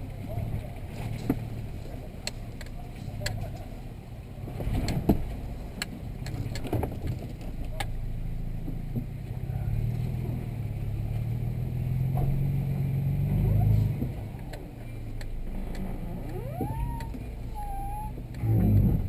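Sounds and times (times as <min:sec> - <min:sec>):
knocks and rattles over rough ground: 0:00.0 - 0:17.6, 0:18.2 - 0:19.0
off-road vehicle engine running: 0:00.0 - 0:19.0.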